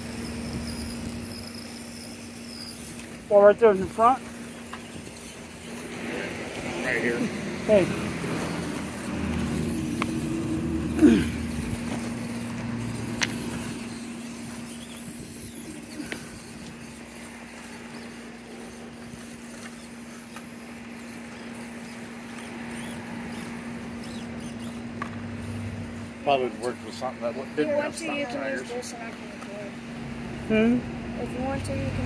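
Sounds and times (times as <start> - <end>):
toy truck motor whirring: 0.0 - 29.7.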